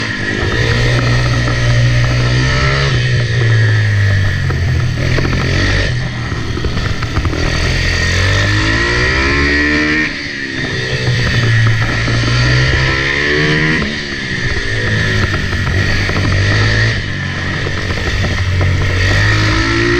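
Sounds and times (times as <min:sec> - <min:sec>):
pitbike engine revving: 0:00.0 - 0:19.9.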